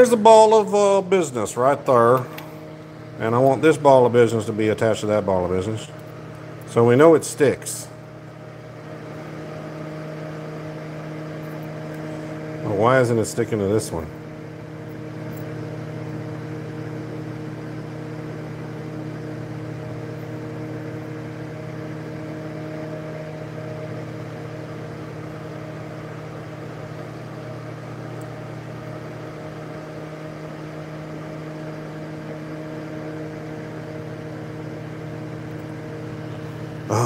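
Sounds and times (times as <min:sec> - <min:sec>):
machine hum with whir: 0:00.0 - 0:37.0.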